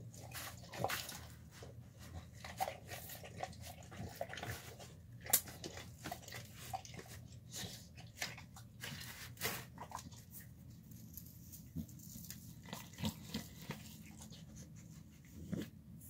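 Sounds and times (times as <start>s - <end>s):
dog chewing and crunching food: 0.0s - 15.8s.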